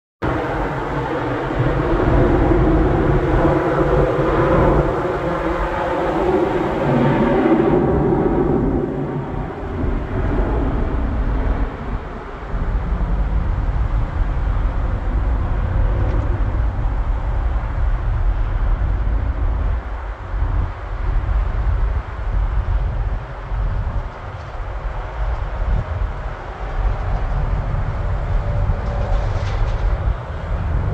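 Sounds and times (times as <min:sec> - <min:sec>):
distant jet engines rumbling: 0:00.2 - 0:30.9.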